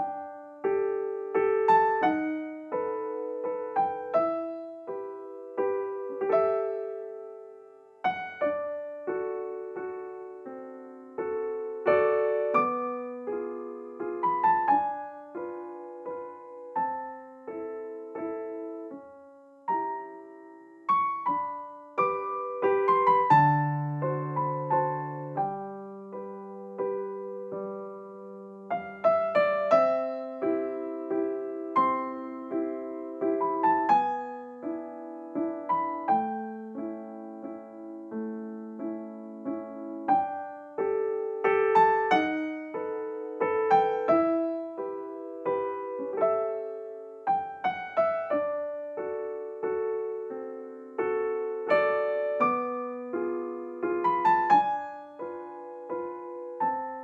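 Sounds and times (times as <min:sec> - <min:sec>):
slow piano music: 0:00.0 - 0:57.0.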